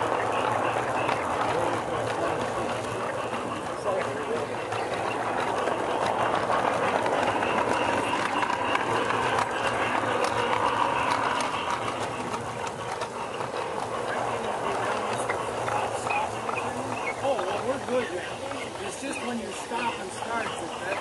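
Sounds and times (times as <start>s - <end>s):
model train rolling on track: 0.0s - 21.0s
wheels clicking on rails: 0.0s - 21.0s.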